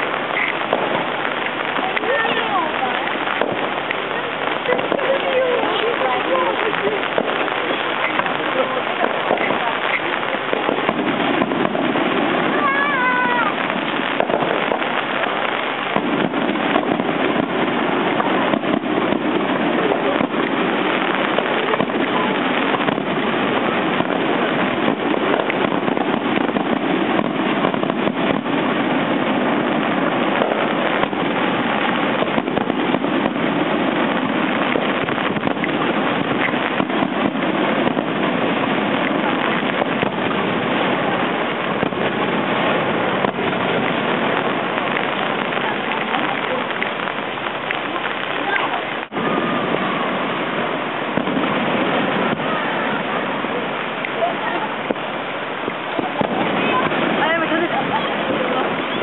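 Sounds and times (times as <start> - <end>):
crowd chatter: 0.0 - 59.0
fireworks bursting and crackling: 0.0 - 59.0.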